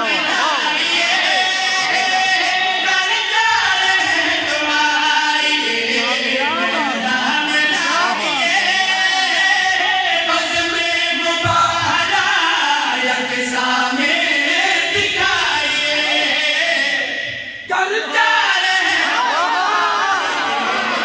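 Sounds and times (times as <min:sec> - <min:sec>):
men singing in chorus: 0:00.0 - 0:21.0.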